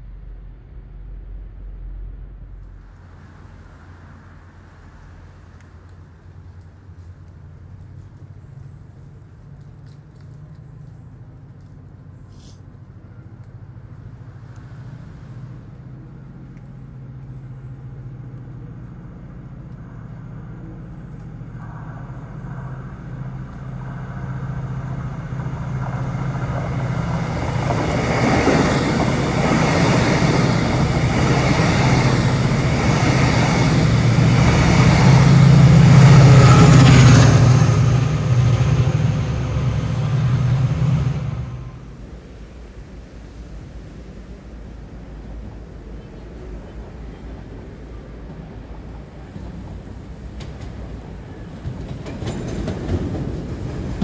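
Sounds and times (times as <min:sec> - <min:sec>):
diesel locomotive drone: 0:00.0 - 0:54.0
train wheels rumbling on rail: 0:00.0 - 0:54.0.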